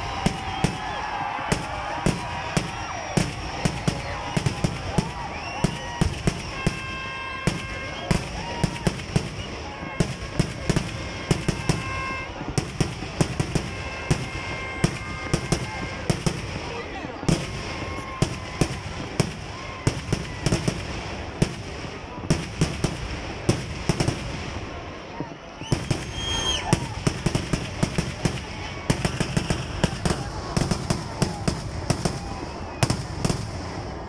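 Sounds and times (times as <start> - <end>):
firecrackers banging rapidly: 0.0 - 34.0.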